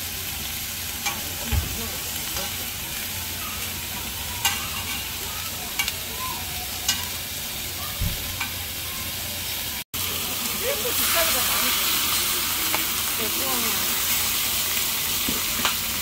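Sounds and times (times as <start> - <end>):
beef sizzling on griddle: 0.0 - 16.0.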